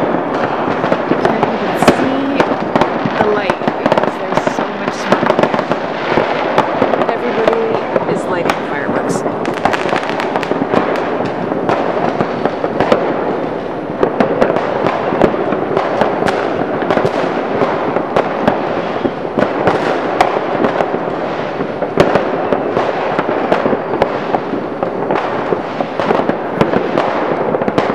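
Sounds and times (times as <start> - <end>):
fireworks bangs and crackles: 0.0 - 27.9
sharp firework cracks: 0.0 - 27.9.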